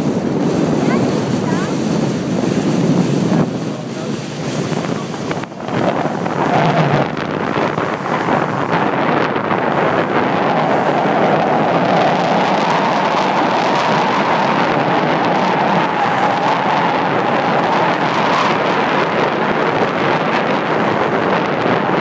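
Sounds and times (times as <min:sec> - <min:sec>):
rushing water: 0:00.0 - 0:22.0
wind buffeting microphone: 0:00.0 - 0:22.0.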